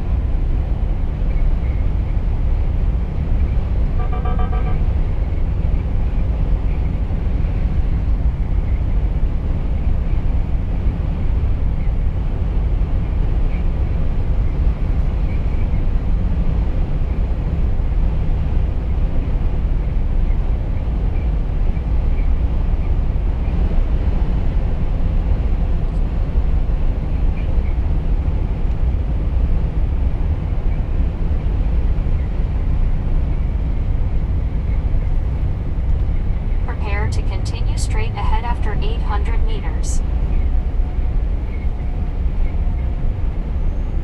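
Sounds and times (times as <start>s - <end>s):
truck engine rumble: 0.0s - 44.0s.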